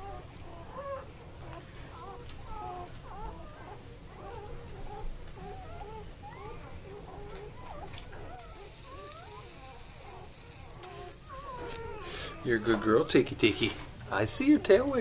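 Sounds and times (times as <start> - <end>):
puppies squeaking and whimpering: 0.0 - 15.0.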